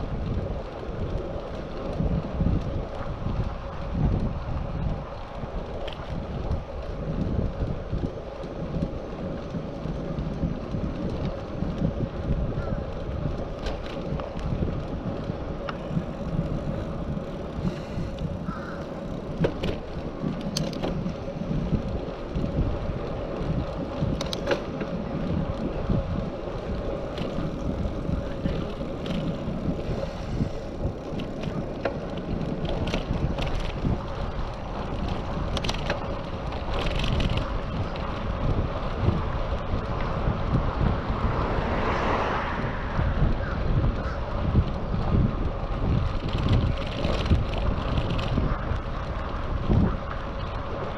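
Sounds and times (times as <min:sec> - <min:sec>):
bicycle rumble and rattles: 0:00.0 - 0:50.9
wind rushing over microphone: 0:00.0 - 0:50.9.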